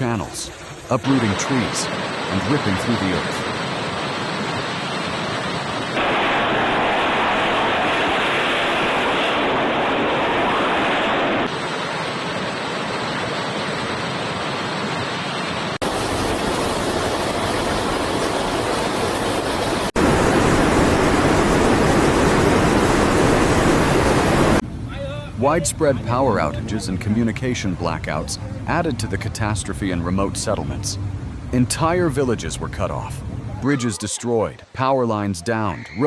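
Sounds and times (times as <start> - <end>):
floodwater rushing roar: 0.0 - 34.8.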